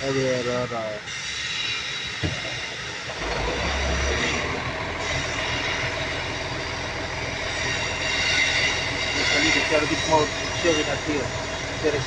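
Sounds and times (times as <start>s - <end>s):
steady high whine: 0.0s - 12.0s
diesel engine running: 2.2s - 12.0s.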